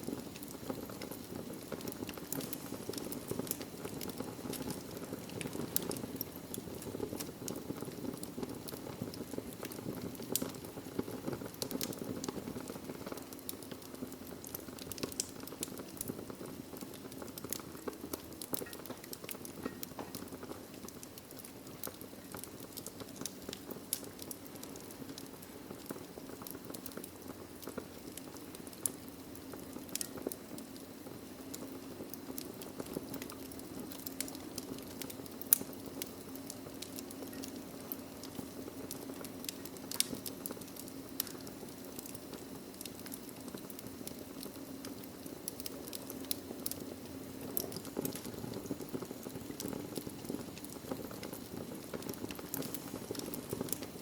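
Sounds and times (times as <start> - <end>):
flames rushing: 0.0 - 54.0
logs crackling and popping: 0.0 - 54.0.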